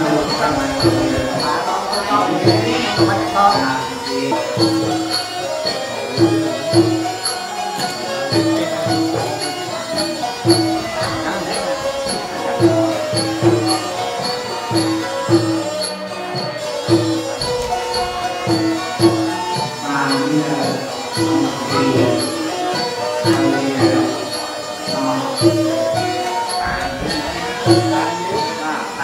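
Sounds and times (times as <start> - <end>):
high jingling tick: 0.0 - 29.0
melody line: 0.0 - 29.0
steady drum beat: 0.0 - 29.0.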